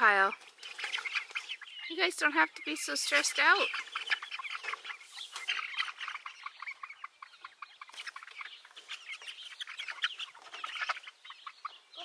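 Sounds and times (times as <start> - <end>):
hens clucking and peeping: 0.0 - 12.0.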